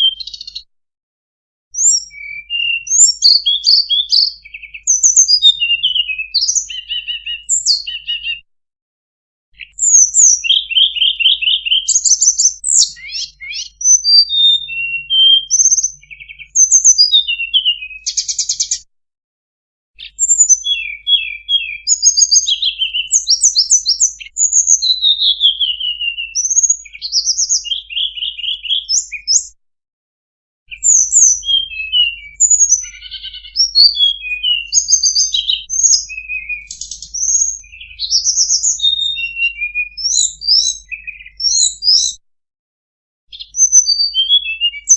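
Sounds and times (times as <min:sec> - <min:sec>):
recorded bird song trills: 0:00.0 - 0:00.7, 0:01.7 - 0:08.5, 0:09.6 - 0:18.9, 0:20.0 - 0:29.6, 0:30.7 - 0:42.2, 0:43.3 - 0:44.9.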